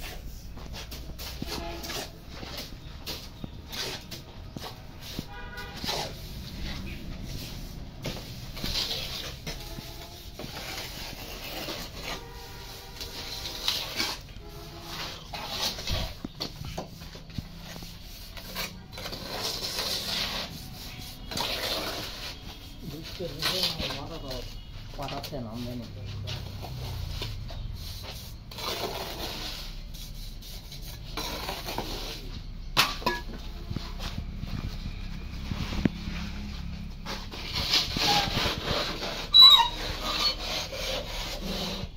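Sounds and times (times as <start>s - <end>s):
trowel scraping wet mortar: 0.0s - 34.2s, 35.4s - 41.9s.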